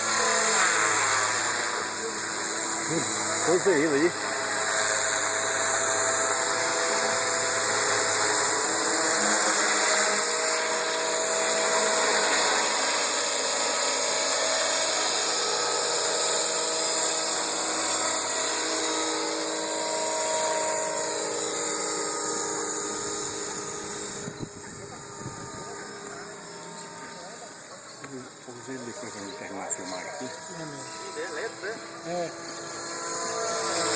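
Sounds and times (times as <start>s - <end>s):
model helicopter high whine: 0.0s - 33.9s.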